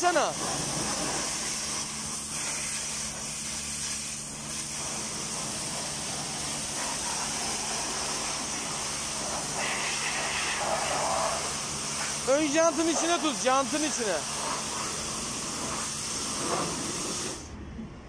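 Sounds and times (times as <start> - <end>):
pressure washer spraying: 0.0 - 17.5.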